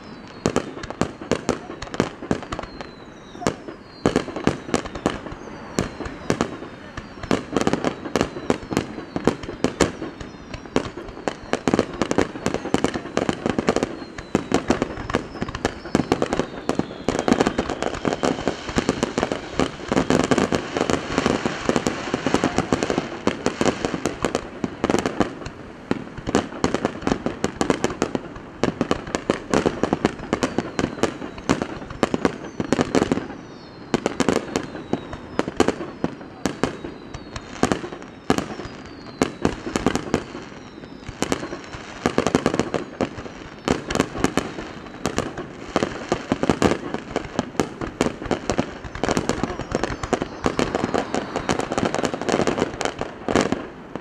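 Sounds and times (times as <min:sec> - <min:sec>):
firework bursts and bangs: 0:00.0 - 0:54.0
firework whistles: 0:00.0 - 0:54.0.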